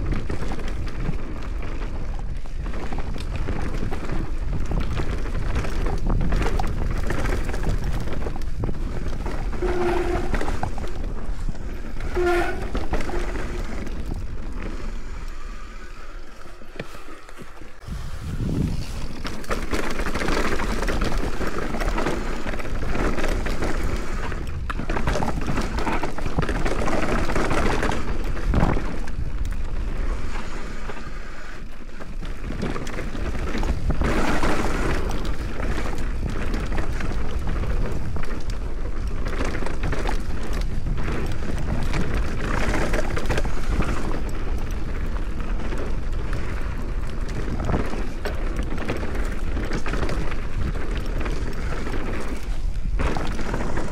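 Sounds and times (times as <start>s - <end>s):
wind on microphone: 0.0s - 19.5s, 20.6s - 53.9s
bike tyres rolling over dirt: 0.0s - 53.9s.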